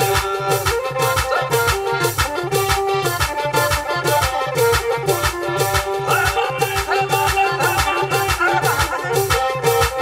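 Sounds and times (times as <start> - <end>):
upbeat dance music: 0.0 - 10.0.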